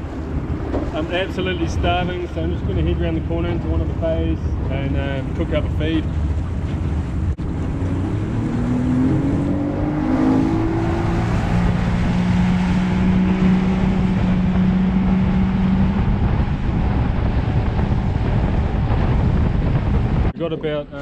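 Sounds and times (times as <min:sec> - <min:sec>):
outboard motor running: 0:00.0 - 0:20.3
wind and water rushing: 0:00.0 - 0:21.0.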